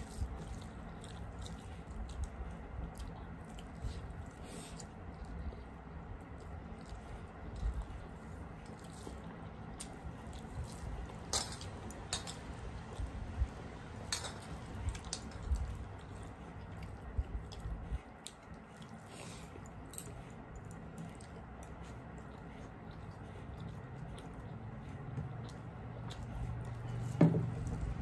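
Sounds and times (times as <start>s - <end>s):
chewing and wet mouth sounds: 0.0s - 28.0s.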